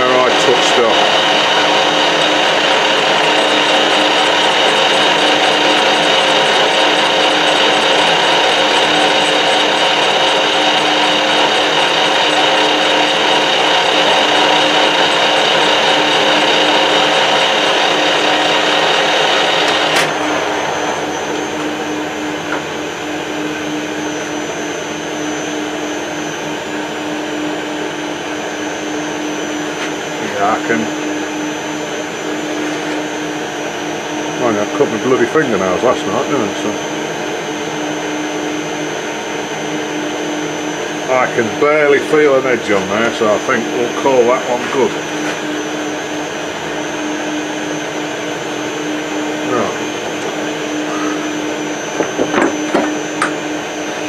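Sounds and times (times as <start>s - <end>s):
metal lathe whining: 0.0s - 54.0s.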